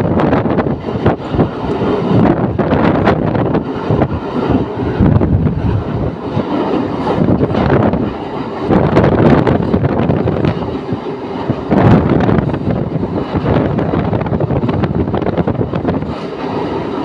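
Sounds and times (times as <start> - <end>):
moving vehicle rumble: 0.0 - 17.0
wind on microphone: 0.0 - 17.0.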